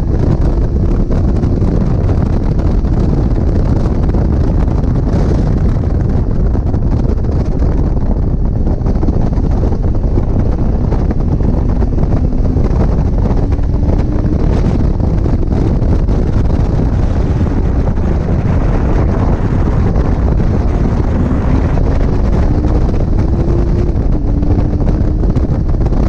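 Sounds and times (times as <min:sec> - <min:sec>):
race car engine: 0:00.0 - 0:26.0
wind buffeting microphone: 0:00.0 - 0:26.0.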